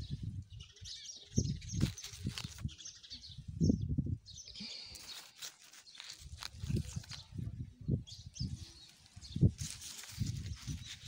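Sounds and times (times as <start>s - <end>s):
wind gusting against microphone: 0.0s - 4.4s, 6.2s - 11.0s.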